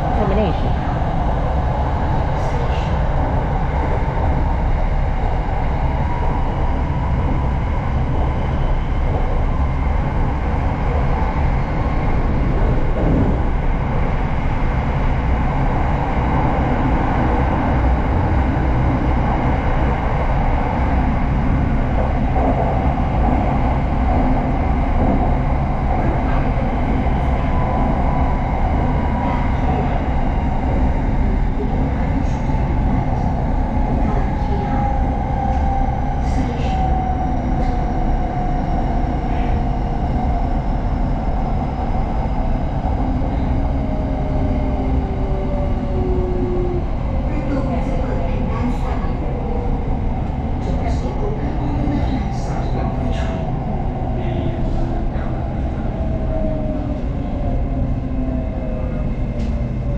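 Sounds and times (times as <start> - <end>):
train interior rumble and hum: 0.0 - 59.9.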